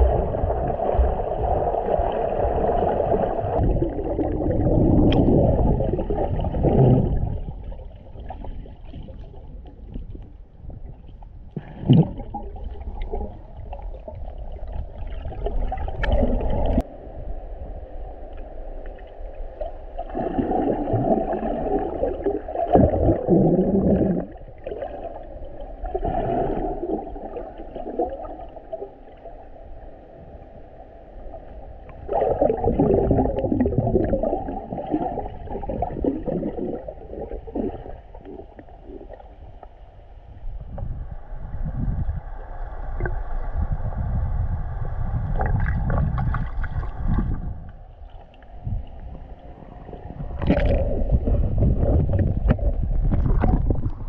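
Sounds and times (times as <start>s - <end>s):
muffled underwater sloshing: 0.0s - 54.0s.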